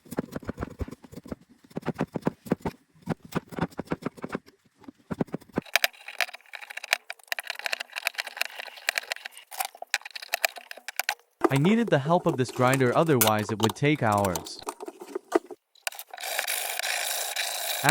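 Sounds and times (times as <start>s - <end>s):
knife shaving wood: 0.0s - 17.9s.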